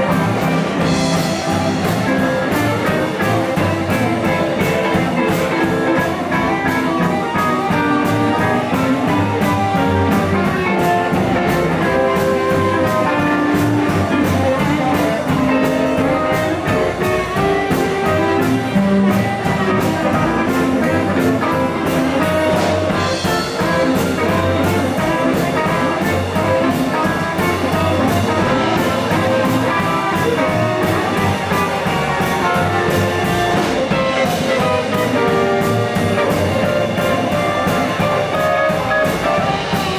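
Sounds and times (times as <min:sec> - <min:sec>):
drum kit keeping a steady beat: 0:00.0 - 0:39.9
electric guitar: 0:00.0 - 0:39.9
harmonica: 0:00.0 - 0:39.9.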